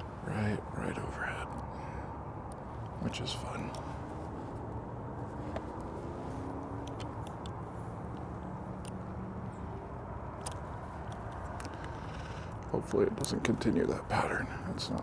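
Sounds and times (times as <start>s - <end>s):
airplane engine rumble: 0.0s - 15.0s.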